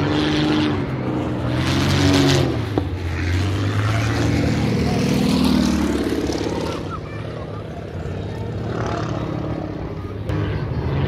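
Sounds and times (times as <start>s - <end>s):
propeller aircraft engines passing: 0.0s - 11.0s.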